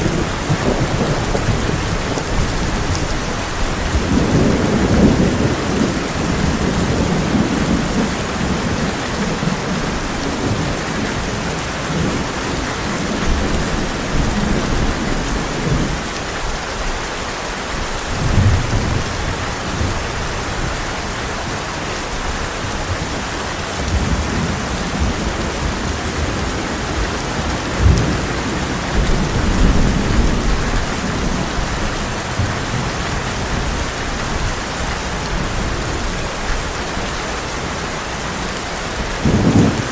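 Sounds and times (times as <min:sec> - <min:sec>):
rolling thunder: 0:00.0 - 0:16.1, 0:18.1 - 0:21.6, 0:22.2 - 0:36.2, 0:39.0 - 0:39.9
heavy rain on a tin roof: 0:00.0 - 0:39.9.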